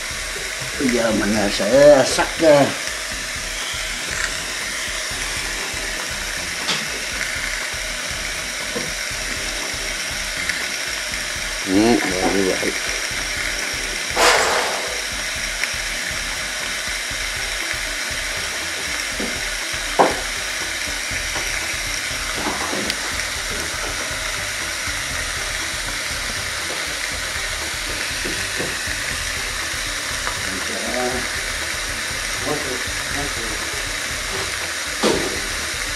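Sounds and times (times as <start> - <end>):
steak sizzling on grill press: 0.0 - 35.9.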